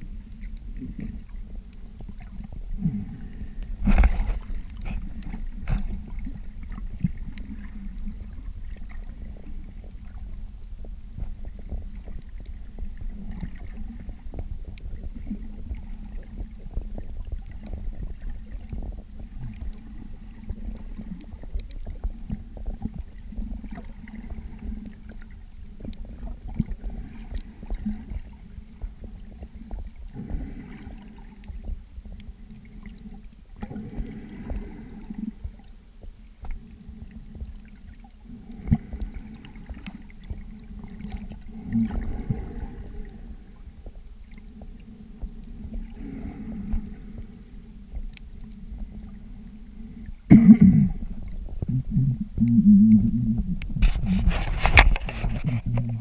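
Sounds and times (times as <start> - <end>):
small clicks and crackles: 0.0 - 50.3, 51.0 - 51.7, 53.6 - 56.0
muffled underwater rumble: 0.0 - 56.0.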